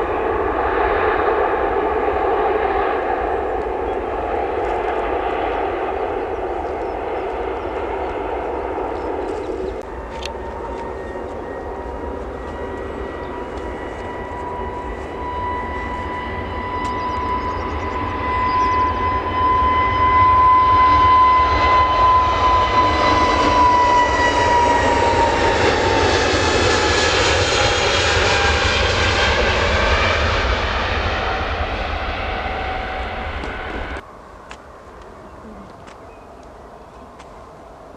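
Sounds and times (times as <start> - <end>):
aircraft engine whine passing: 0.0 - 37.9.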